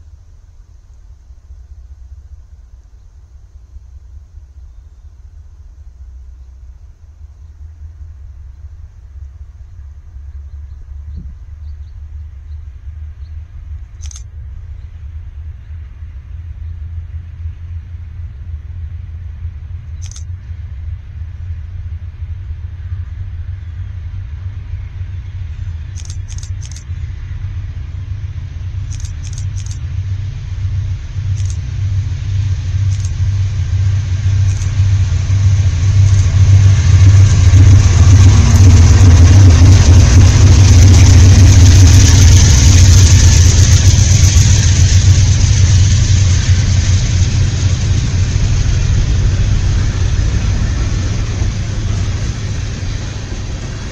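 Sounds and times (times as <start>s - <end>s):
diesel locomotive engine rumble: 0.0s - 53.9s.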